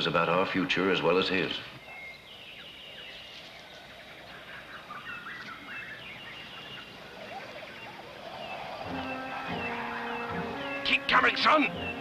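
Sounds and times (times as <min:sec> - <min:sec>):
birds chirping: 0:00.0 - 0:12.0
faint steady hiss: 0:00.0 - 0:12.0.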